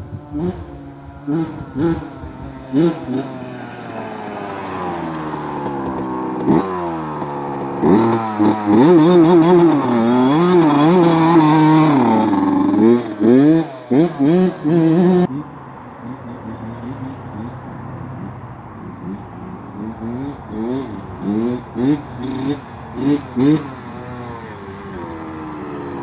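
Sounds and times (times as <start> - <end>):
motocross bike revving: 0.0 - 26.0.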